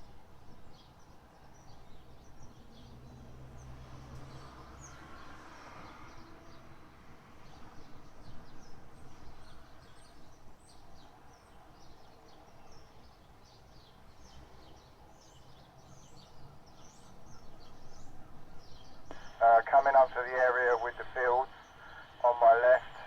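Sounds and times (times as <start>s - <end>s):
small birds chirping: 0.5s - 23.0s.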